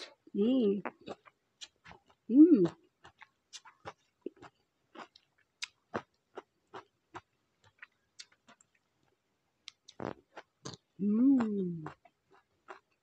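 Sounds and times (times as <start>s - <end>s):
wet chewing and mouth smacks: 0.8s - 11.0s, 11.7s - 13.0s.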